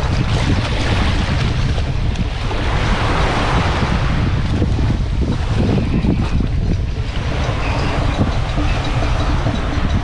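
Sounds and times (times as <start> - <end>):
surf washing on beach: 0.0 - 10.0
wind buffeting microphone: 0.0 - 10.0.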